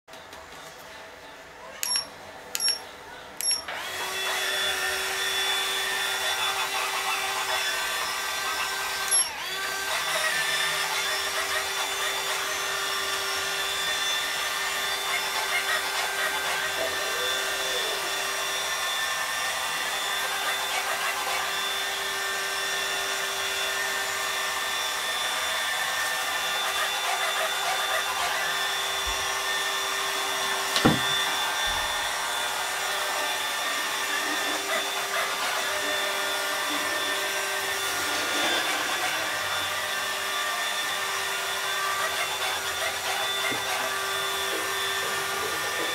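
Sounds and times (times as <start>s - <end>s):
vacuum motor hum and whine: 3.7s - 45.9s.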